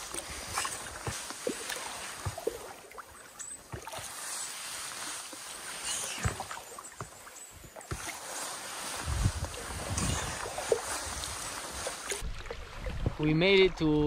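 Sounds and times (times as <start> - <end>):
paddles splashing in water: 0.0 - 13.4
steady watery wash: 0.0 - 14.0.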